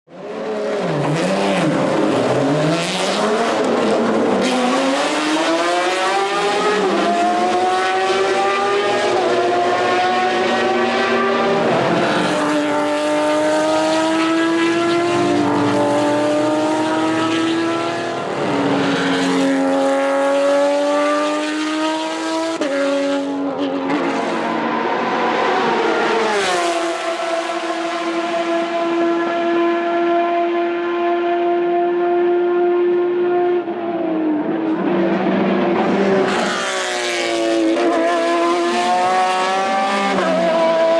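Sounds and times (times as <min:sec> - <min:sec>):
race car engine at high revs: 0:00.1 - 0:40.9.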